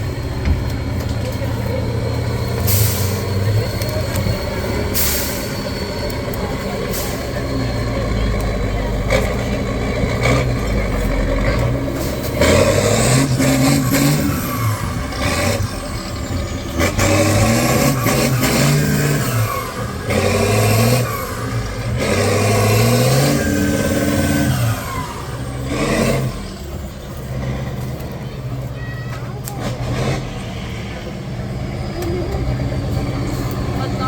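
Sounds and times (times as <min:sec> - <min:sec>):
diesel truck engine revving: 0:00.0 - 0:34.0.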